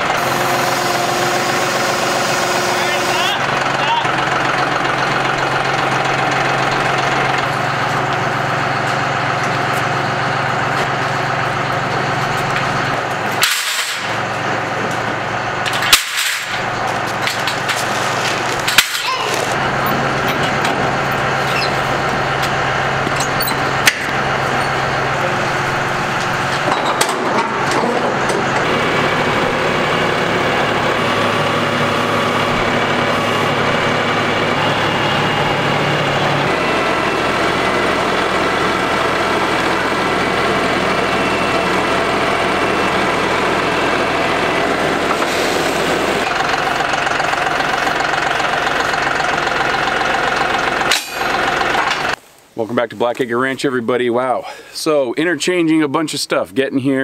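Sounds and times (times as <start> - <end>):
tractor diesel engine running: 0.0 - 55.7.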